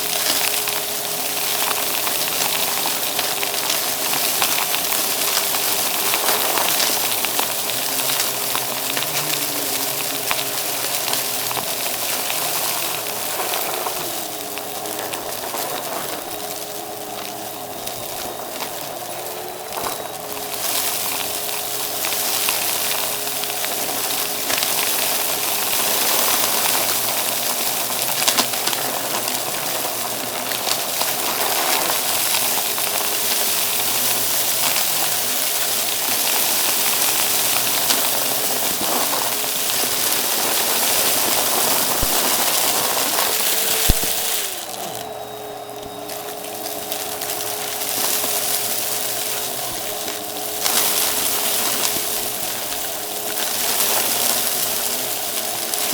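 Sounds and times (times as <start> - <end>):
debris clicking in vacuum: 0.0 - 55.9
vacuum cleaner running: 0.0 - 55.9.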